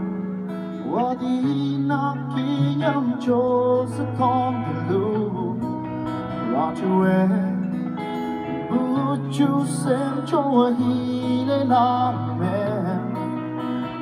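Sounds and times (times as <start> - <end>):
acoustic and electric guitars: 0.0 - 14.0.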